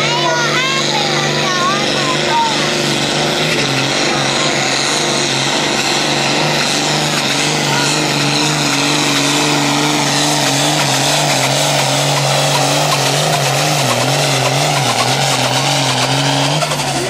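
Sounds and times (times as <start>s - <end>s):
tractor diesel engine at high revs: 0.0s - 17.0s.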